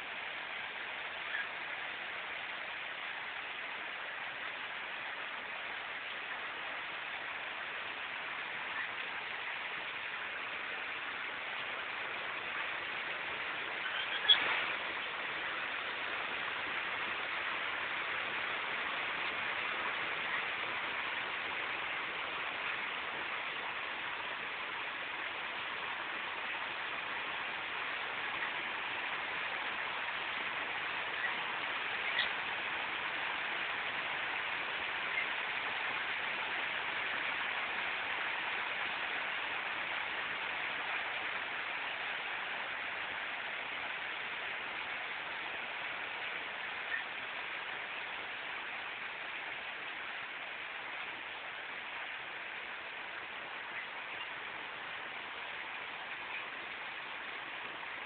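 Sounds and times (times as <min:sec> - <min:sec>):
heavy rain on concrete and leaves: 0:00.0 - 0:58.0.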